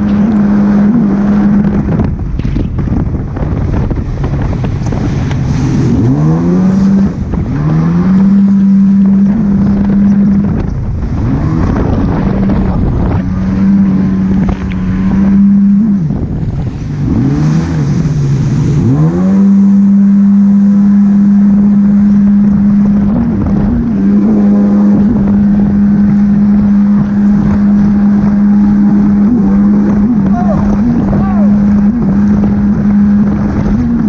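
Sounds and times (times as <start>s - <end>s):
jet ski engine running: 0.0s - 34.0s
rushing water: 0.0s - 34.0s
wind noise: 0.0s - 34.0s.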